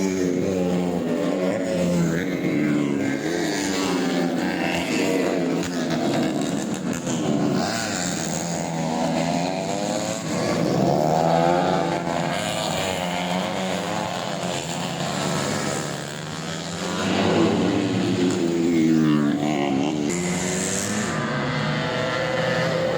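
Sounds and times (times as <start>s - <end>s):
motorcycle engines revving: 0.0s - 22.9s.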